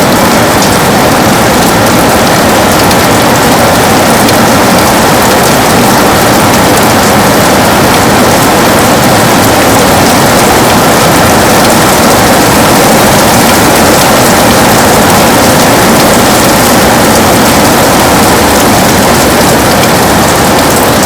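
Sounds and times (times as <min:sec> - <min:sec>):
heavy rain: 0:00.0 - 0:21.0
raindrops pattering on window: 0:00.0 - 0:21.0.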